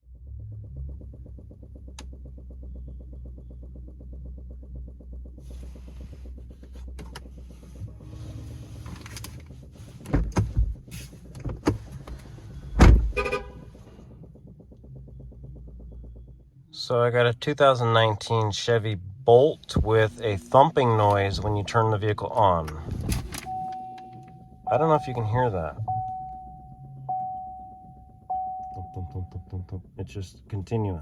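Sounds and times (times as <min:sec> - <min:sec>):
car brake booster pulsing hum: 0:00.0 - 0:31.0.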